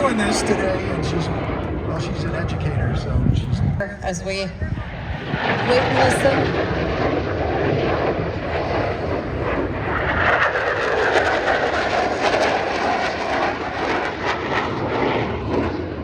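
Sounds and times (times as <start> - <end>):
fighter jets flying past: 0.0 - 16.0.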